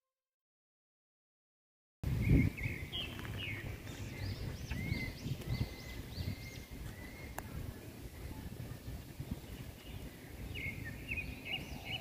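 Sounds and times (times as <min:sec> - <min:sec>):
birds chirping: 0:02.0 - 0:12.0.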